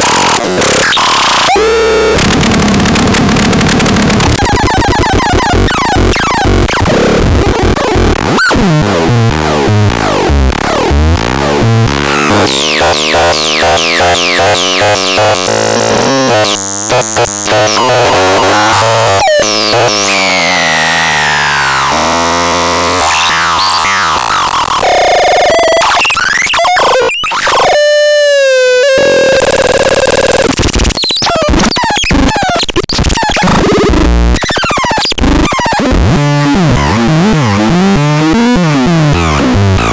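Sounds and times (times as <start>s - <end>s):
harsh electronic synth tones: 0.0s - 39.9s.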